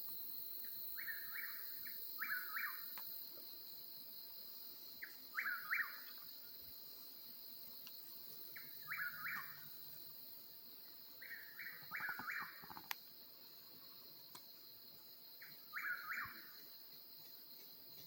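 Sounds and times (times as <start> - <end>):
night insects droning: 0.0 - 18.0.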